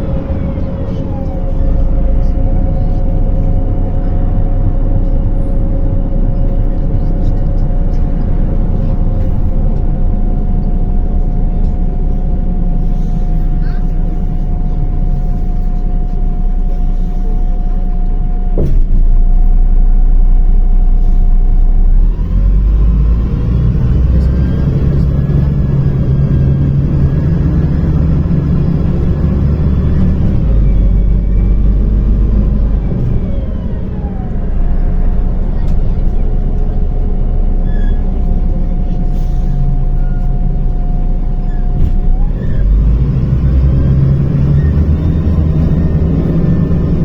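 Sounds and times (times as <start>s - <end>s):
bus diesel engine: 0.0s - 47.0s.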